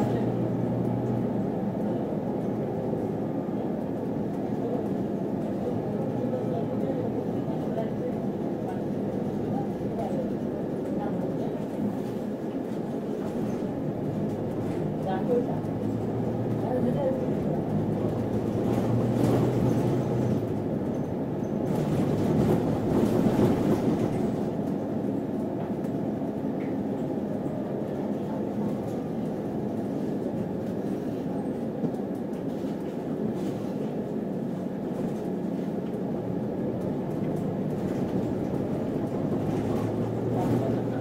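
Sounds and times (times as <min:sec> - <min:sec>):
bus engine and road noise: 0:00.0 - 0:41.0.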